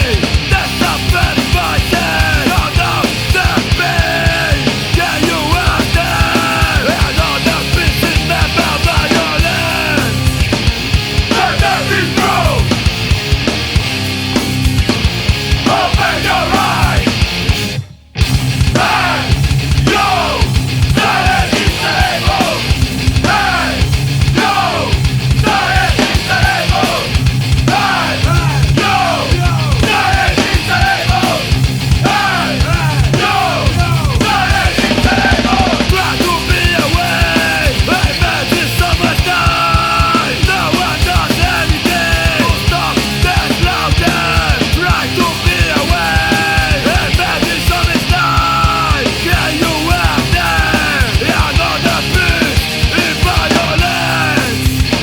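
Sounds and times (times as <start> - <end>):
loud punk rock music: 0.0 - 55.0.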